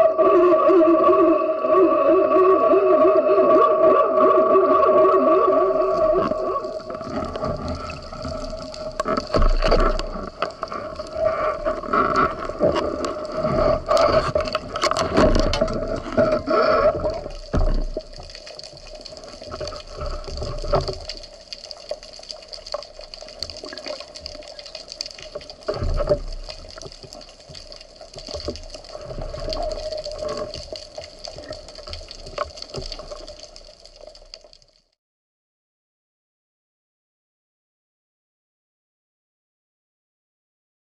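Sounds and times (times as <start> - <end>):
water sloshing and gurgling: 0.0 - 35.0.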